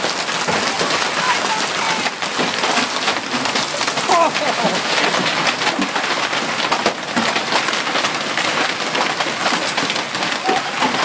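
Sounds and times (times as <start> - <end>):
hailstones pelting down: 0.0 - 11.0.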